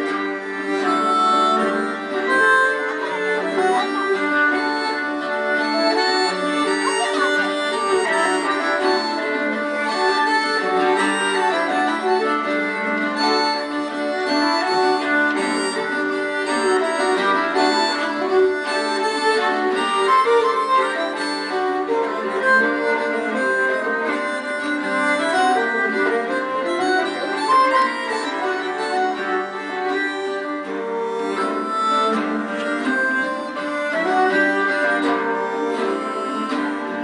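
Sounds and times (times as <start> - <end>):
bowed keyed fiddle: 0.0 - 37.0
small accordion: 0.0 - 37.0
strummed mandolin: 0.0 - 37.0.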